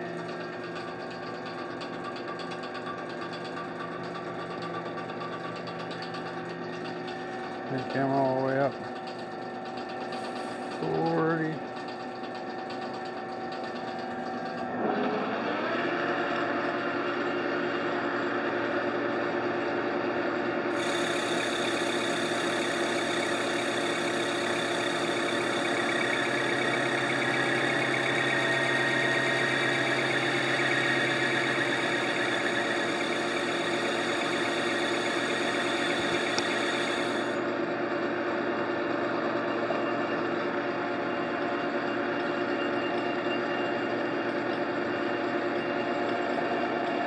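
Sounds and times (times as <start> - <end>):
lathe running with machine whine: 0.0 - 47.0.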